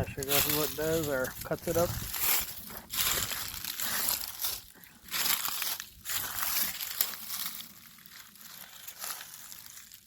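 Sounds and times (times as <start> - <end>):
footsteps crunching on dry ground: 0.0 - 10.0.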